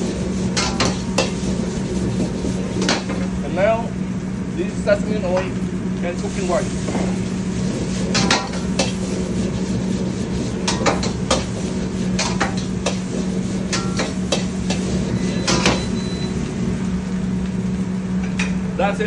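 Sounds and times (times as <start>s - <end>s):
low burner hum: 0.0s - 19.0s.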